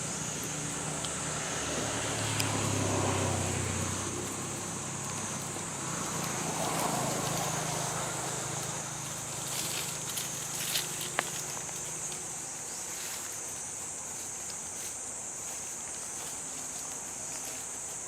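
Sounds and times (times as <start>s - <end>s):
passing traffic: 0.0s - 18.0s
vehicle engine hum: 0.0s - 18.0s.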